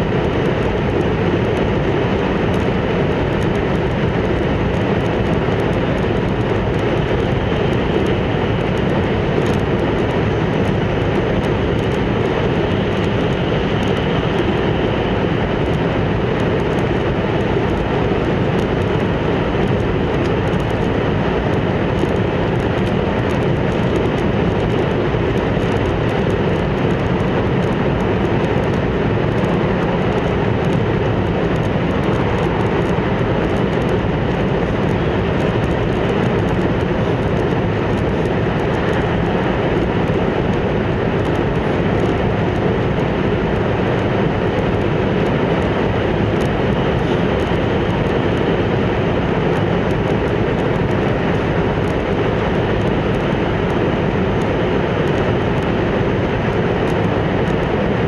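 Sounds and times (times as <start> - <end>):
train rumble from inside car: 0.0 - 58.0.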